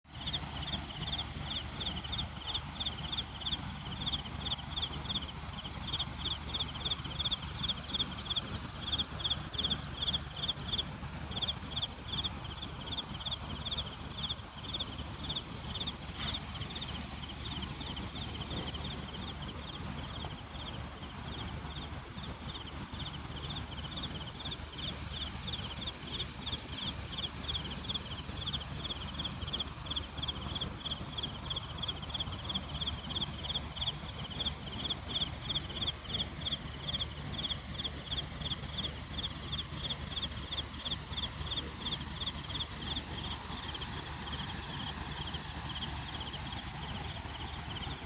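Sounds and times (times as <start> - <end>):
low steady rumble: 0.0 - 48.0.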